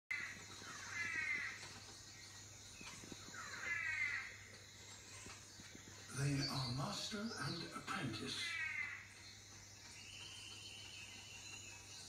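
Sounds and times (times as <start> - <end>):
bird calling on television: 0.1 - 12.0.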